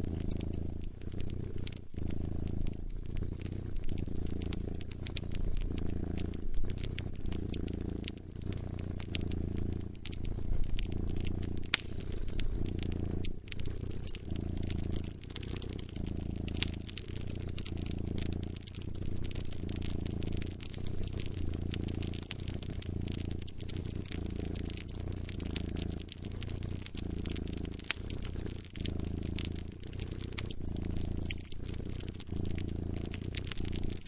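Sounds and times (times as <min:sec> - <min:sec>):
cat purring: 0:00.0 - 0:34.0
wood fire crackling and popping: 0:00.0 - 0:34.0.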